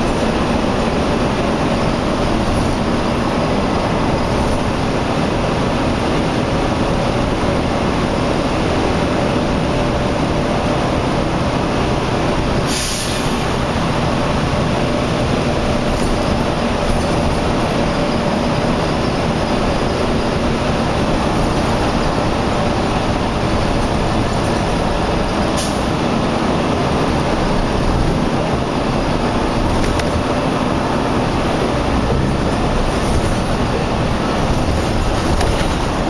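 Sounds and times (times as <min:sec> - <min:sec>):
highway traffic rumble: 0:00.0 - 0:36.0.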